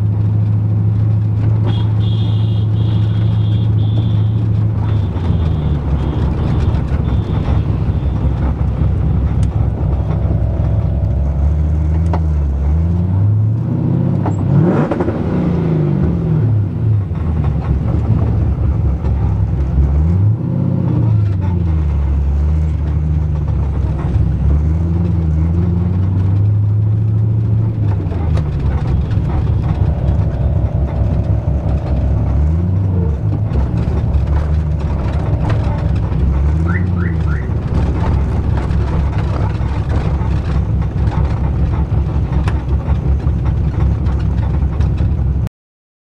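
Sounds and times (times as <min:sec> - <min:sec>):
car engine revving: 0:00.0 - 0:45.5.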